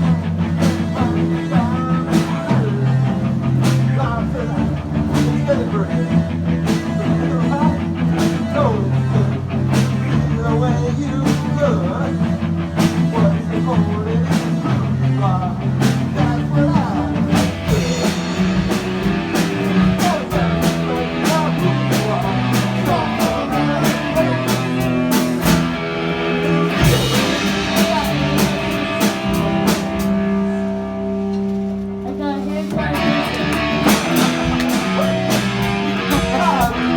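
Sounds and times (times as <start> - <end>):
rock music with drums bass guitar: 0.0 - 36.9.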